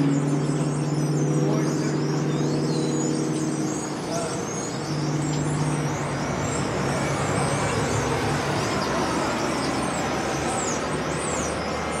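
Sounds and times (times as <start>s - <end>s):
birds chirping: 0.0s - 12.0s
road traffic rushing: 0.0s - 12.0s.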